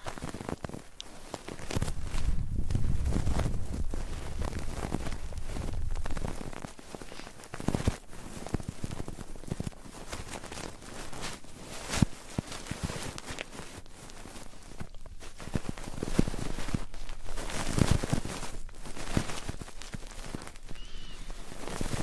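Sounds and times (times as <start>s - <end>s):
scratching and rubbing on microphone: 0.0s - 22.0s.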